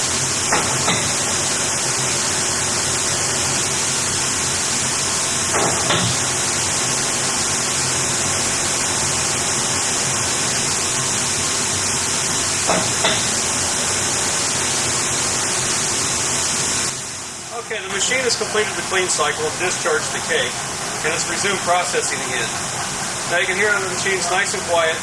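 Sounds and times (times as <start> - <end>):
centrifuge hissing rush: 0.0 - 25.0.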